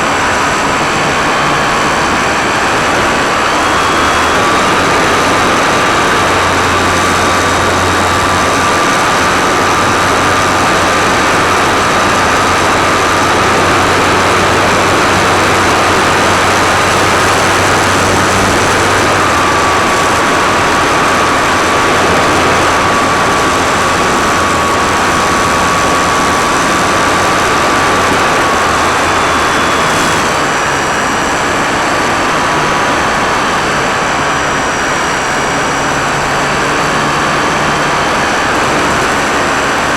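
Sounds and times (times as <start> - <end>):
electric propeller whining: 0.0 - 39.9.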